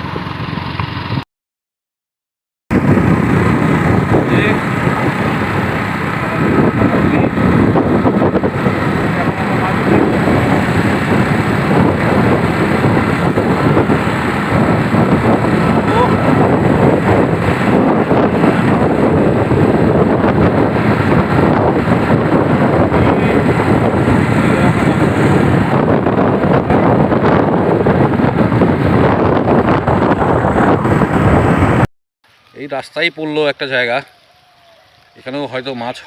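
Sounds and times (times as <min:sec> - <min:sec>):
motorbike engine: 0:00.0 - 0:01.2, 0:02.7 - 0:31.8
road noise: 0:00.0 - 0:01.2, 0:02.7 - 0:36.0
wind buffeting microphone: 0:02.7 - 0:31.9.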